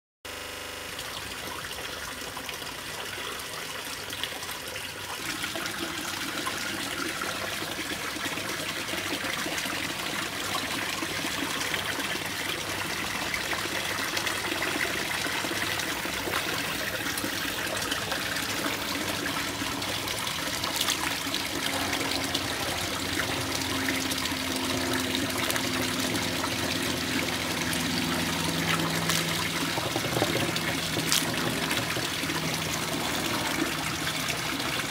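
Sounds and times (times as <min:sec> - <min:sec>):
water splashing into pond: 0:00.9 - 0:34.9.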